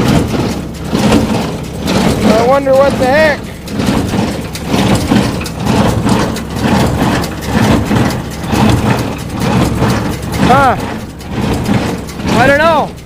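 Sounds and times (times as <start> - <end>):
baler rattling: 0.0 - 13.0
tractor diesel engine running: 0.0 - 13.0.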